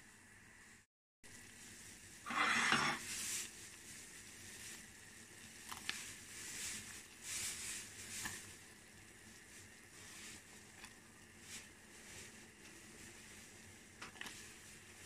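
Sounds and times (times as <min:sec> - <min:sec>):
water boiling and splashing: 0:00.2 - 0:15.0.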